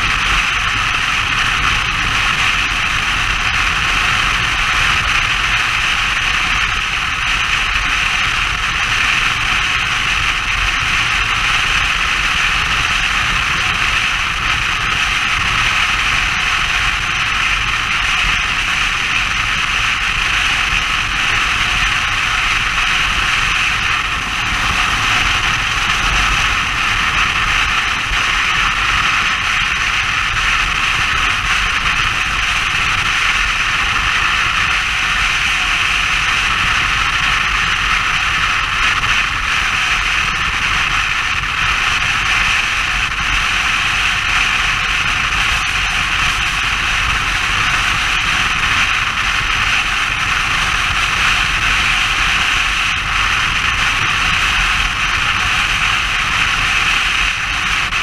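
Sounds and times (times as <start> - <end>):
motorcycle engine rumble: 0.0 - 58.0
wind and road noise: 0.0 - 58.0.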